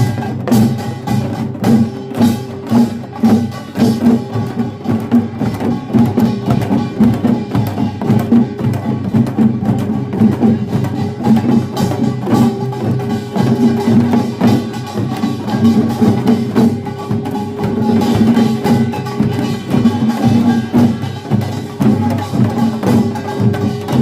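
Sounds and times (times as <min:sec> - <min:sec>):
drums: 0:00.0 - 0:24.0
small gongs clanging: 0:00.0 - 0:24.0.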